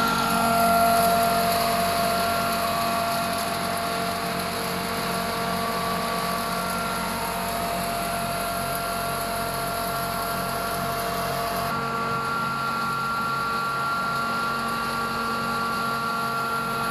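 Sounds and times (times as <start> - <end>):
electric flour mill running: 0.0 - 16.9.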